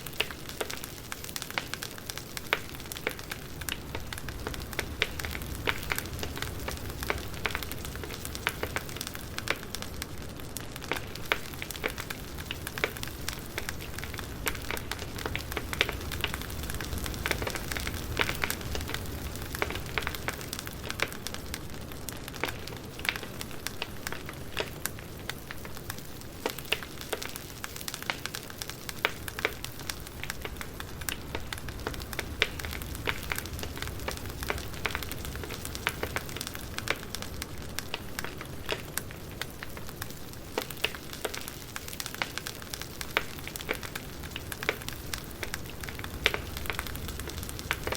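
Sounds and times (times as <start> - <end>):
burning wood crackling and popping: 0.0 - 47.9
campfire flames rumbling and hissing: 0.0 - 47.9.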